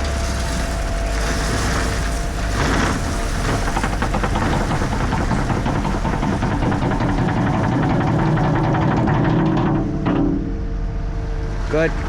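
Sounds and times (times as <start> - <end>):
heavy equipment engines running: 0.0 - 12.0.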